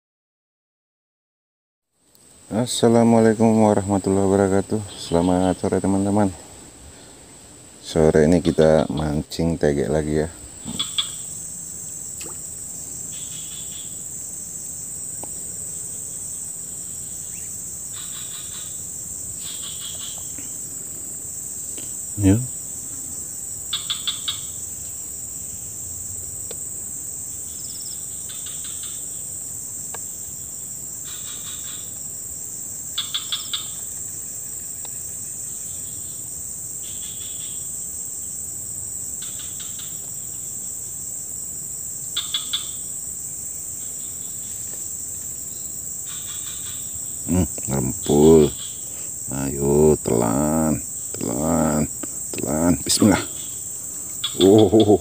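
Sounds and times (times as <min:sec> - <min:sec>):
insects droning: 0:01.9 - 0:55.0
pulsed insect chirping: 0:02.3 - 0:55.0.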